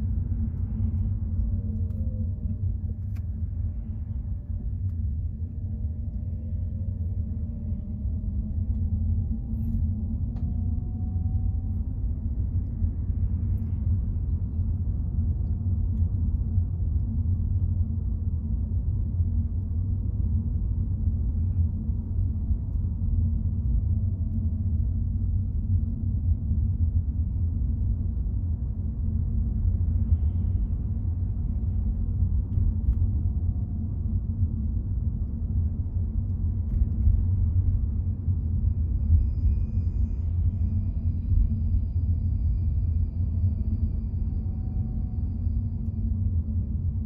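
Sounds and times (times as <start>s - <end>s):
car engine and tyre rumble: 0.0s - 47.0s
faint whine: 0.0s - 47.0s.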